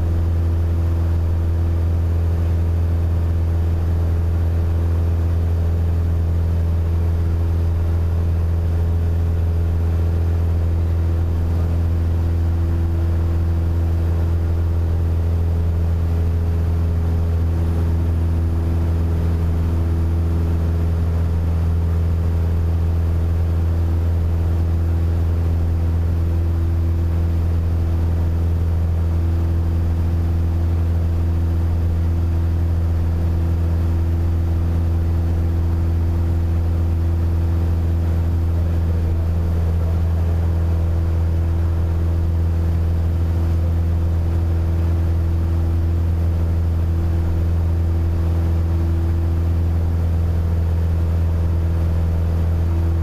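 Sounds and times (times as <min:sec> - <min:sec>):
aircraft engine drone in cockpit: 0:00.0 - 0:53.0.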